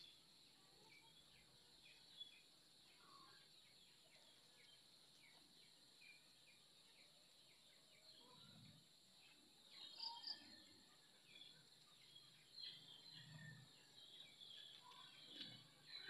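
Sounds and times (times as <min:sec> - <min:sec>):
bird chirps: 0:00.0 - 0:16.0.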